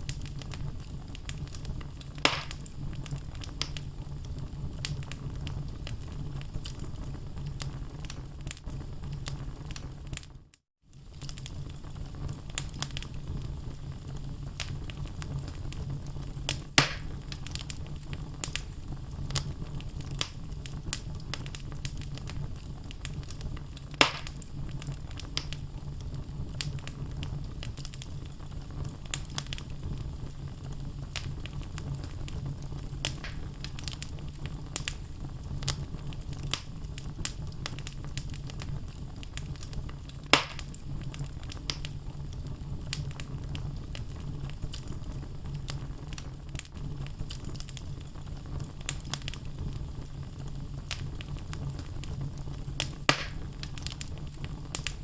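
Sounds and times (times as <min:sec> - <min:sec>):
loud fire pops: 0:00.0 - 0:10.3, 0:11.0 - 0:55.0
wood fire crackling: 0:00.0 - 0:55.0.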